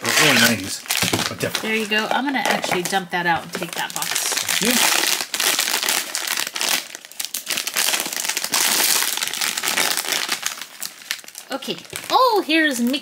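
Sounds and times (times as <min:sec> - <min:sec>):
foil pouch crinkling and tearing: 0:00.0 - 0:13.0.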